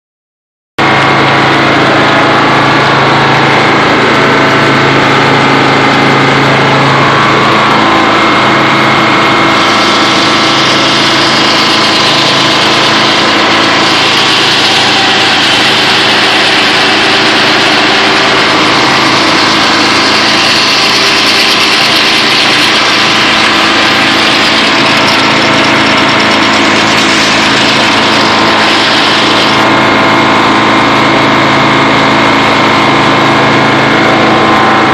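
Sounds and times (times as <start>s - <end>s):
diesel engine: 0.8s - 34.9s
sawmill running: 0.8s - 34.9s.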